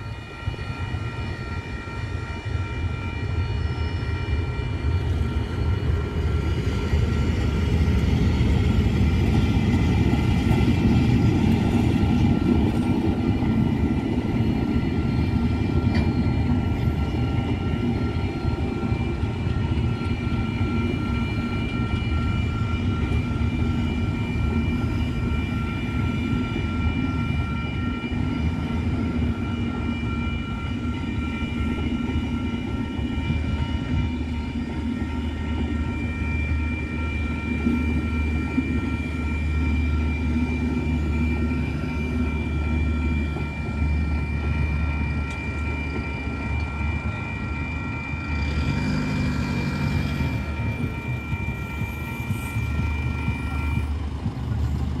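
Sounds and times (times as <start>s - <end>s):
level crossing warning bells: 0.0s - 55.0s
train carriages rumbling past: 0.0s - 55.0s.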